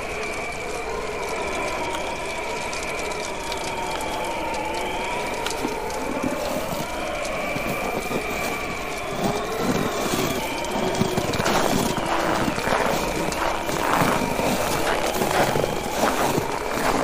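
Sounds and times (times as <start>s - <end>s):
bonfire crackling and popping: 0.0s - 17.0s
wind howling: 0.0s - 17.0s.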